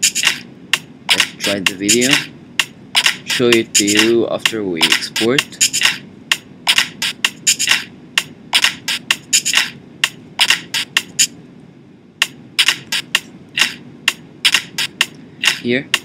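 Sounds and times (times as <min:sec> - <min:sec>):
sharp clicks and taps: 0:00.0 - 0:11.3, 0:12.2 - 0:16.0.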